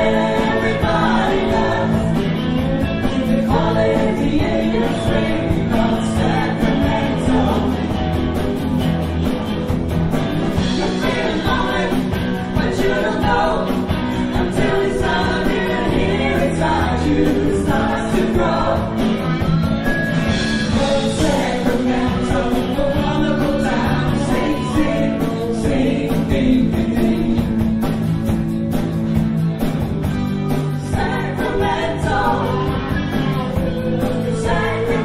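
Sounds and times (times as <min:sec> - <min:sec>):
two women singing: 0:00.0 - 0:08.2, 0:10.8 - 0:19.4, 0:20.7 - 0:27.7, 0:30.8 - 0:35.0
band playing pop song: 0:00.0 - 0:35.0.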